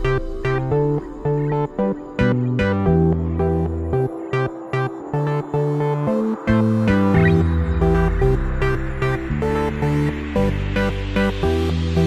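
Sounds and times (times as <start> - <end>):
bass line: 0.0 - 4.2, 6.5 - 12.0.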